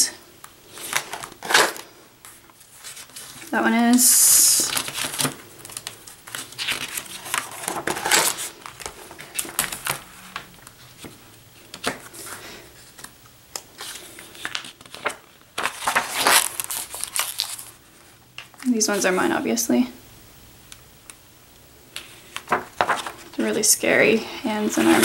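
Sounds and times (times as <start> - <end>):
paper pages rustling: 0.6 - 19.3, 21.9 - 23.7, 24.6 - 25.0.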